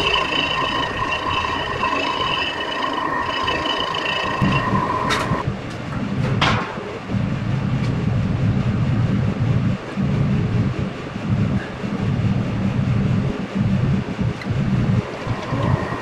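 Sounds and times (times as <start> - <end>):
milling machine cutter whine: 0.0 - 5.5, 6.9 - 16.0
low machine rumble: 0.0 - 16.0.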